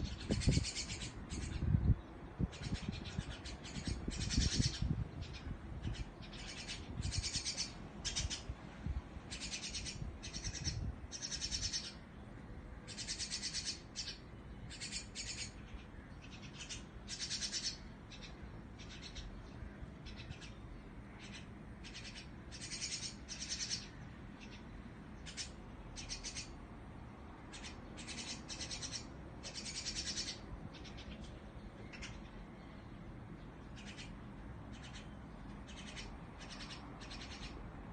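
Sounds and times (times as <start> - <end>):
birds chirping: 0.0 - 8.5, 9.3 - 37.7.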